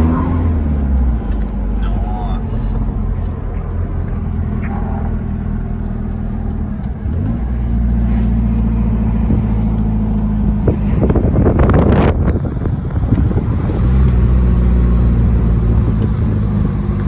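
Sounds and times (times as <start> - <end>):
engine and exhaust accelerating: 0.0 - 17.0.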